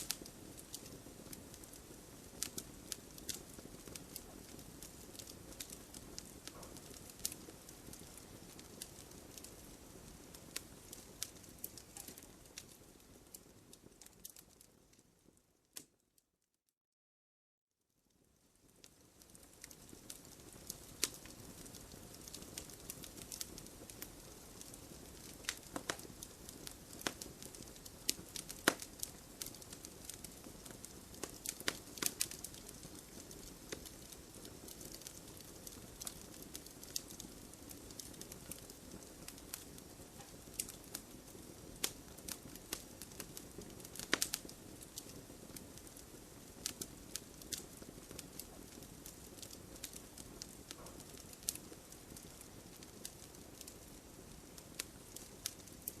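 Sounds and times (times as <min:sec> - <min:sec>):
wood fire crackling and popping: 0:00.0 - 0:16.0, 0:18.2 - 0:56.0.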